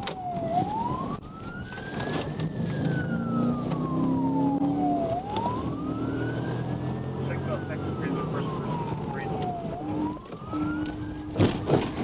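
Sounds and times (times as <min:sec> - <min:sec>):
car engine: 0:00.0 - 0:12.0
police siren wailing: 0:00.0 - 0:12.0
road noise: 0:00.0 - 0:12.0.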